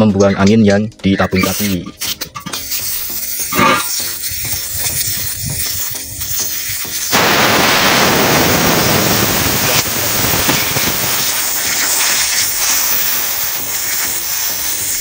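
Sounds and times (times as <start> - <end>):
compressed air hissing from valve: 1.4 - 15.0.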